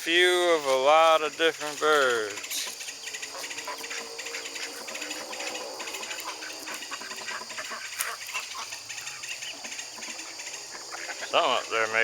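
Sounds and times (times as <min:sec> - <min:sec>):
steady high hiss: 0:00.0 - 0:12.0
poultry clucking and chirping: 0:00.1 - 0:12.0.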